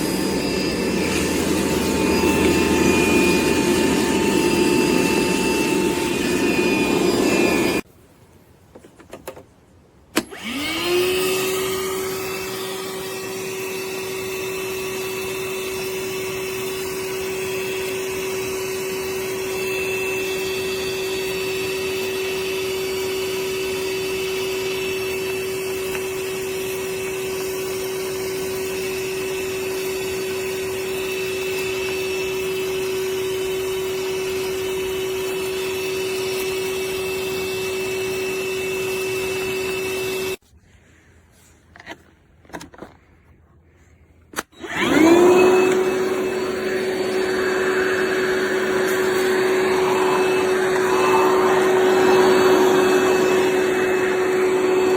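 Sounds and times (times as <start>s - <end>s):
vacuum motor high-pitched whine: 0.0s - 7.9s, 10.2s - 40.4s, 44.4s - 54.9s.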